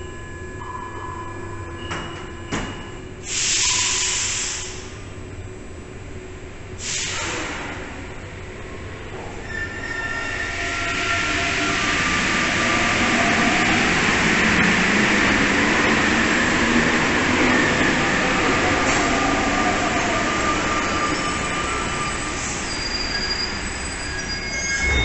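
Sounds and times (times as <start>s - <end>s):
metro train electric whine: 0.0s - 25.0s.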